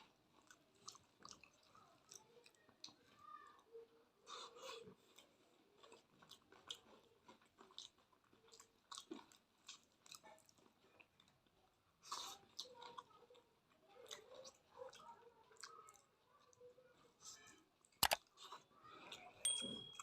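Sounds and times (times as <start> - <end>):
person chewing: 0.0 - 3.2, 4.3 - 11.4, 12.0 - 15.8, 17.2 - 19.4.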